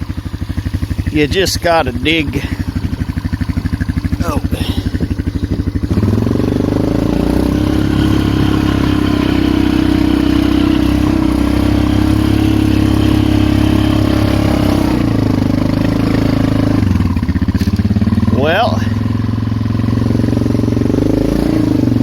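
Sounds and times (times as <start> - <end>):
engine revving under load: 0.0 - 22.0.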